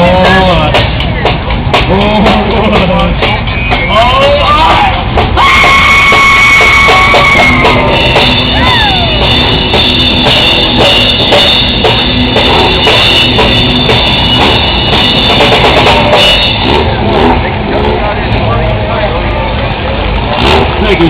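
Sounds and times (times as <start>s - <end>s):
drum kit beat: 0.0s - 18.0s
live rock band playing: 0.0s - 18.0s.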